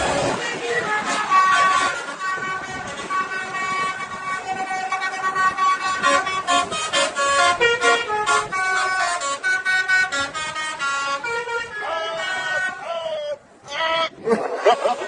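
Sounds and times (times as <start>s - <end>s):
multi-tone bus horn melody: 0.0s - 12.9s, 14.6s - 15.0s.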